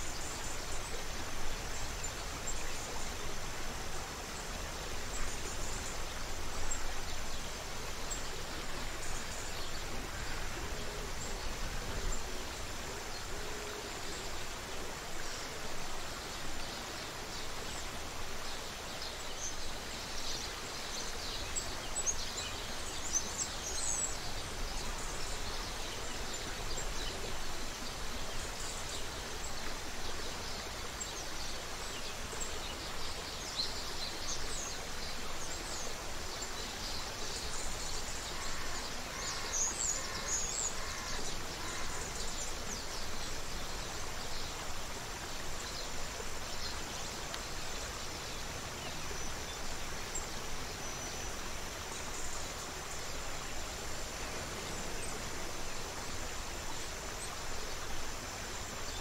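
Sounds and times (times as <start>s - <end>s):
creek water running: 0.0s - 59.0s.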